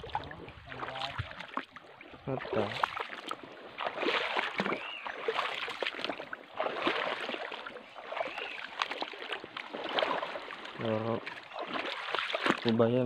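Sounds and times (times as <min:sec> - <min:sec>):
shallow water sloshing and splashing: 0:00.0 - 0:13.0.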